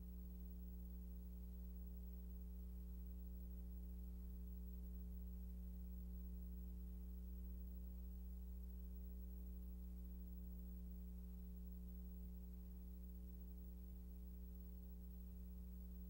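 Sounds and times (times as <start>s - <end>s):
faint film soundtrack hiss: 0.0s - 16.0s
low electrical hum: 0.0s - 16.0s.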